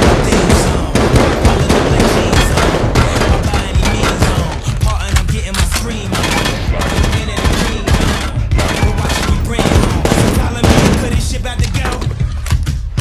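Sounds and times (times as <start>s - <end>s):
rapid gunfire: 0.0s - 12.1s
loud music: 0.0s - 13.0s.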